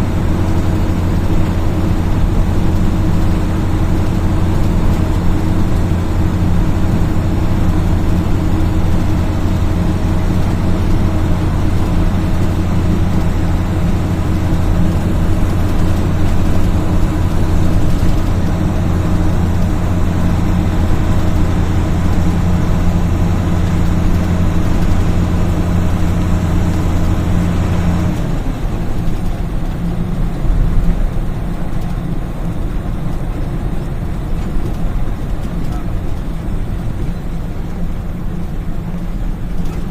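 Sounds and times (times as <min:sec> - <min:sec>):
diesel coach engine running: 0:00.0 - 0:39.9.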